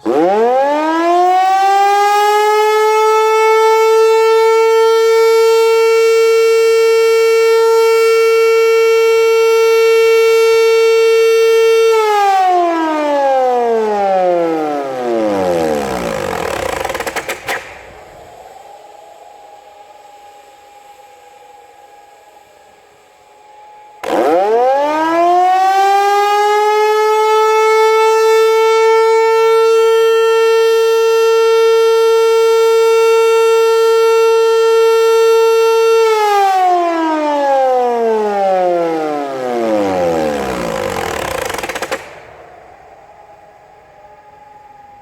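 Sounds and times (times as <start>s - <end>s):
rotary siren wailing: 0.0s - 45.0s.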